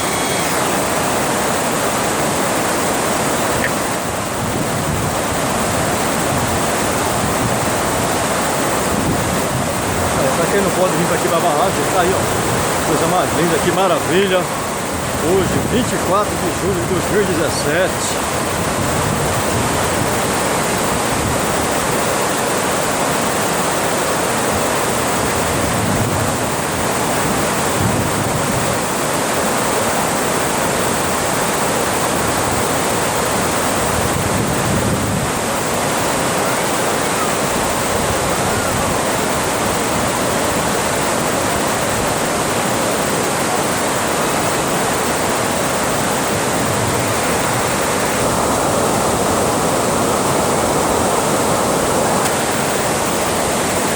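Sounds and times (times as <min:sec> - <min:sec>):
water roaring over a dam: 0:00.0 - 0:53.9.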